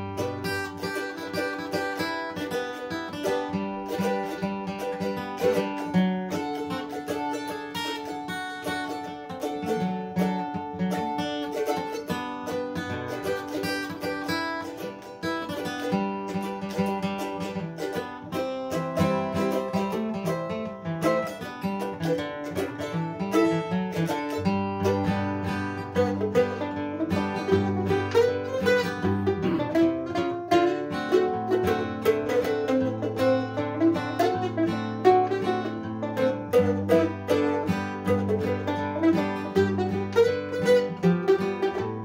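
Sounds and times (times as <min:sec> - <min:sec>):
acoustic guitar playing: 0:00.0 - 0:42.0
mandolin picking: 0:00.0 - 0:42.0.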